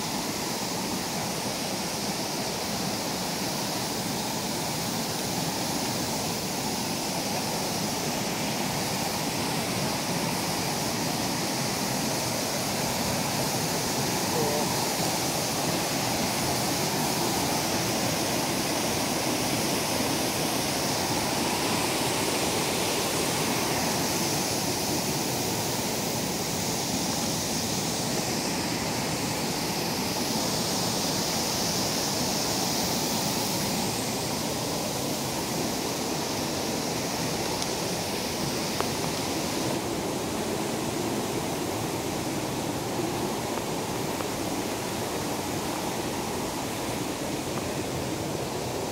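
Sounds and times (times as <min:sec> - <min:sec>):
waterfall and creek rushing: 0:00.0 - 0:48.9.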